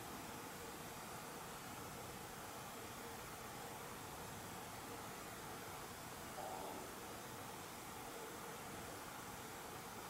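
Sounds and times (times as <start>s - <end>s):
faint room tone hiss: 0.0s - 10.0s.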